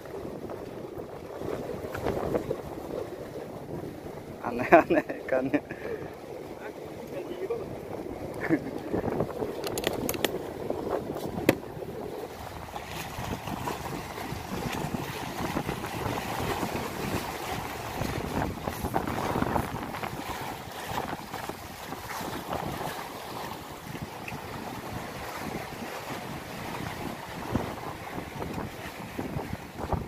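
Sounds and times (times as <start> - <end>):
waves splashing on concrete: 0.0 - 30.0
wind buffeting microphone: 0.0 - 30.0.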